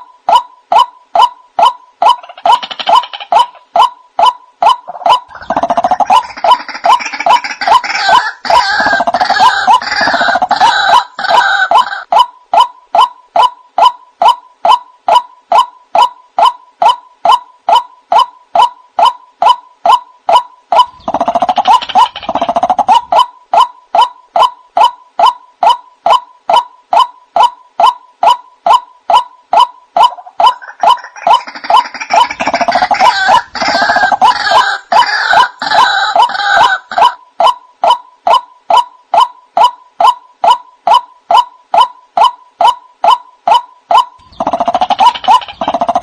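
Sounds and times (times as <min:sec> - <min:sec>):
harsh bird calling bursts: 0:00.0 - 0:46.0
waterhen kwak calls: 0:00.0 - 0:46.0.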